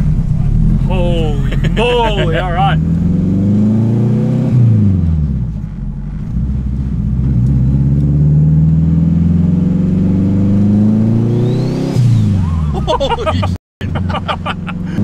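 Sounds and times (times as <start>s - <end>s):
car engine under hard acceleration: 0.0s - 15.0s.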